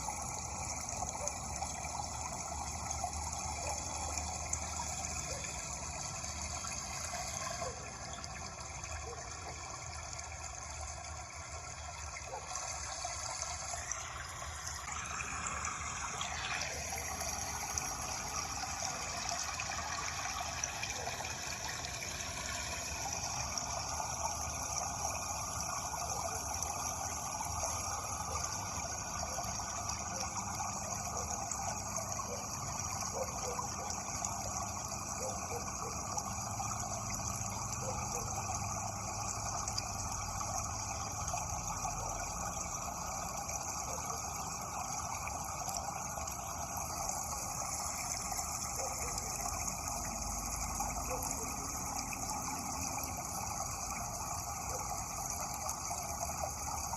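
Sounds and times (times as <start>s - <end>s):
stream water rushing: 0.0s - 11.2s, 12.2s - 56.9s.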